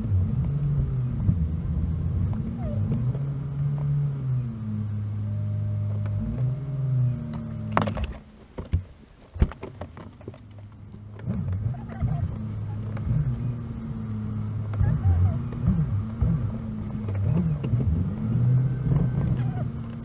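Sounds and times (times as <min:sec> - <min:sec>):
sped-up car engine and road hum: 0:00.0 - 0:20.0.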